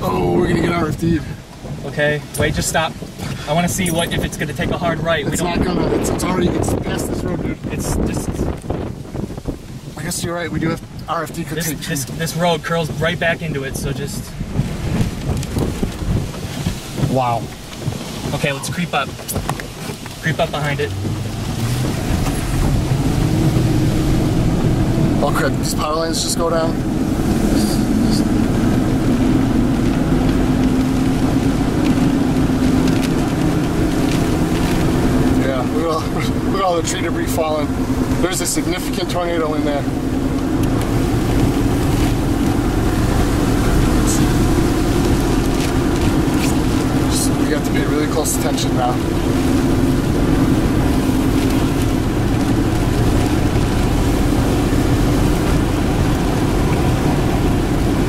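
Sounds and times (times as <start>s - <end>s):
car engine drone: 0.0s - 58.0s
rain on windshield: 0.0s - 58.0s
tyre noise on wet road: 0.0s - 58.0s.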